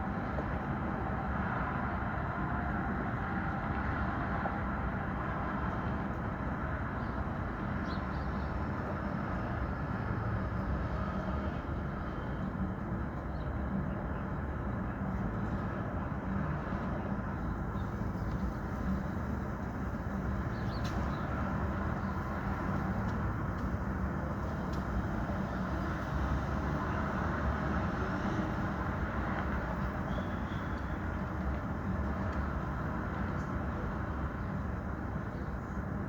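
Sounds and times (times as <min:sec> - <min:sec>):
city street traffic rumble: 0:00.0 - 0:36.0.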